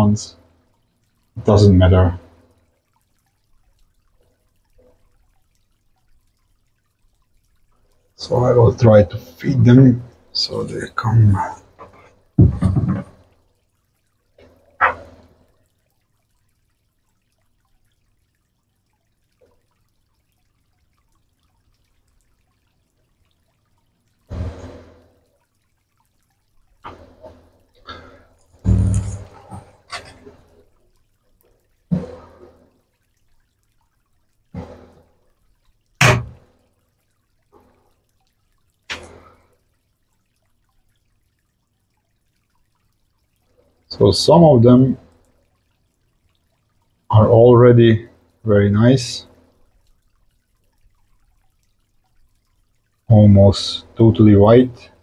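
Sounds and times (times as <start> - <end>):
watery plop: 0.0 - 48.4.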